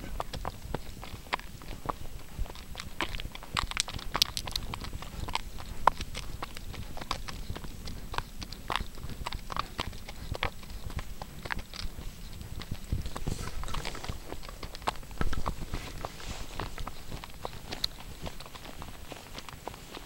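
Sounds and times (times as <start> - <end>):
horse hooves on gravel: 0.0 - 20.0.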